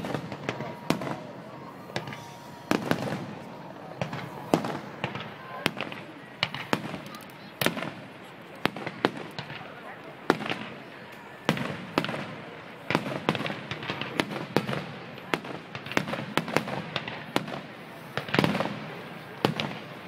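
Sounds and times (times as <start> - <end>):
fireworks bangs and pops: 0.0 - 20.0
fireworks booms: 0.0 - 20.0.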